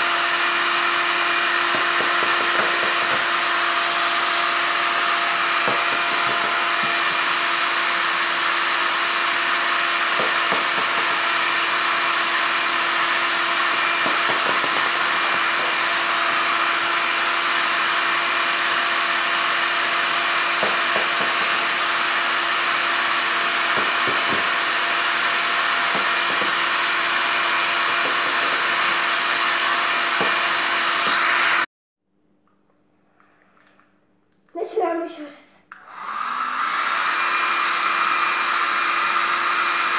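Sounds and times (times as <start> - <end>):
hair dryer blowing: 0.0 - 31.7, 35.7 - 39.9.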